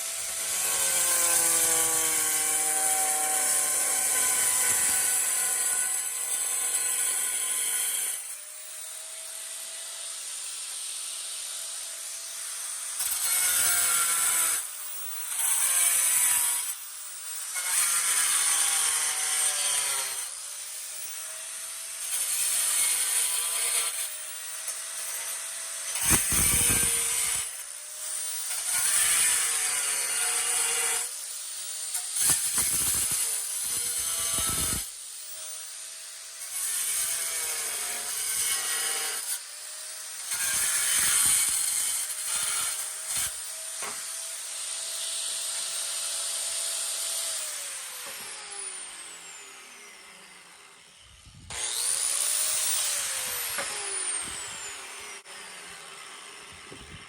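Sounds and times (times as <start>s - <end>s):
angle grinder cutting tile: 0.0s - 57.0s.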